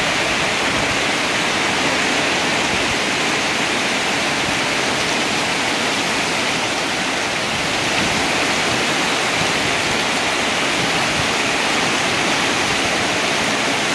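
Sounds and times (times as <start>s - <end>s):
heavy rain on pavement: 0.0s - 13.9s
runoff pouring off roof: 0.0s - 13.9s.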